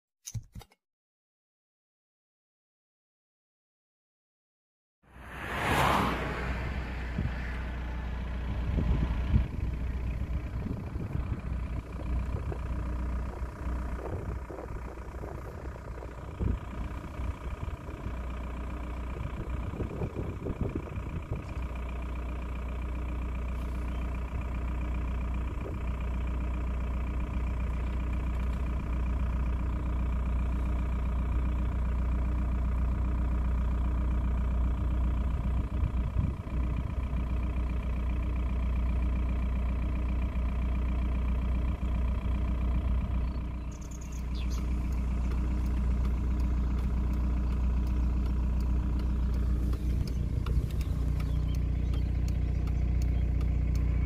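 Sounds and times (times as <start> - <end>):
car engine and tyre rumble: 5.0 - 54.0.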